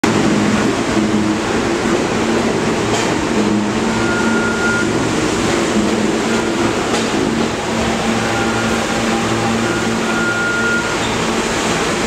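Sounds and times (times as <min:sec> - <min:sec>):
subway train rumble and hum: 0:00.0 - 0:12.0.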